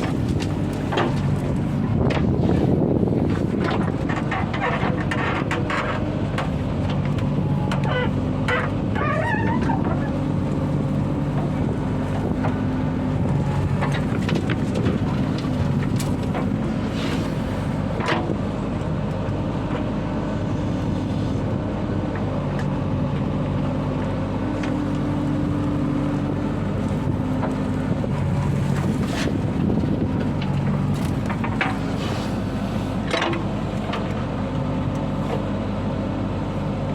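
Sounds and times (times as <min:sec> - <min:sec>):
diesel engine working under load: 0:00.0 - 0:36.9.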